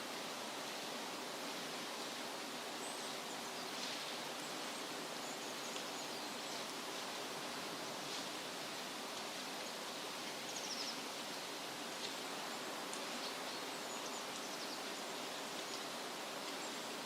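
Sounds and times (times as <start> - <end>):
wind rustling through trees: 0.0 - 17.0.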